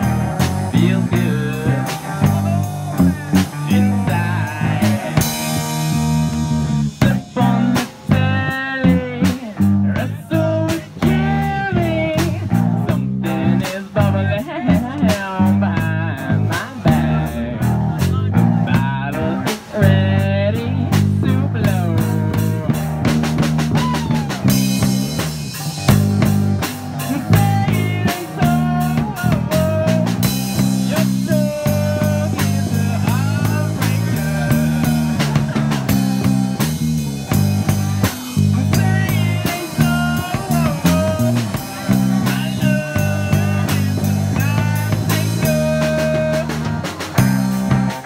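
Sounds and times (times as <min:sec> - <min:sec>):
bending lead guitar melody: 0:00.0 - 0:48.0
drums: 0:00.0 - 0:48.0
electric guitar: 0:00.0 - 0:48.0
repeating bass line: 0:00.0 - 0:48.0.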